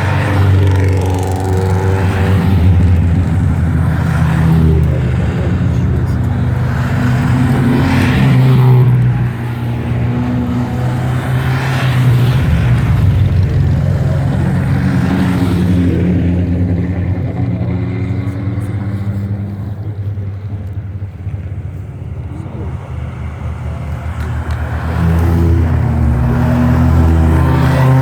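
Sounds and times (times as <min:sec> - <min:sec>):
race cars driving past: 0:00.0 - 0:28.0.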